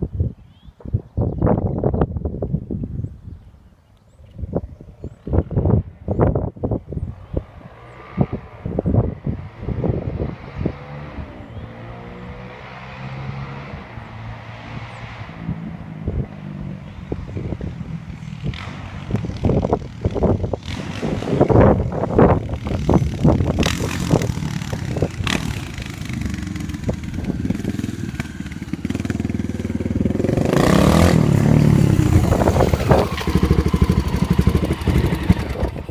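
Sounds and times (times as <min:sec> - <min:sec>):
motorcycle engine idling and revving: 0:05.1 - 0:35.9.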